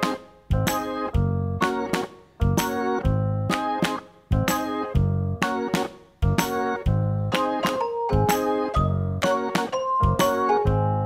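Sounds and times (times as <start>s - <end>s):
light keyboard tune with beat: 0.0s - 11.0s.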